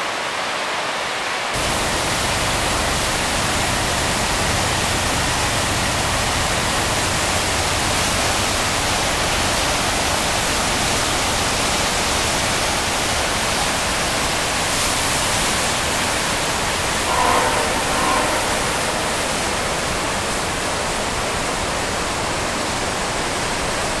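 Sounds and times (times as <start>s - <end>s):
loud rush of whitewater: 0.0s - 24.0s.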